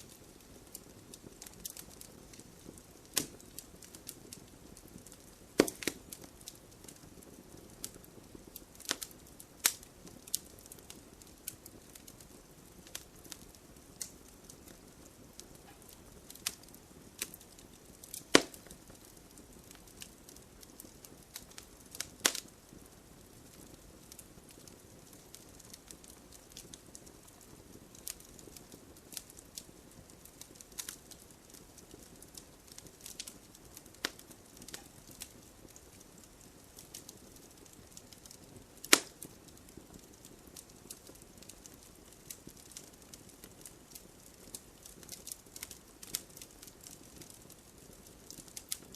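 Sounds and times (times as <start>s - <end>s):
fire hissing and crackling: 0.0s - 48.9s
loud pops from burning logs: 0.0s - 48.9s.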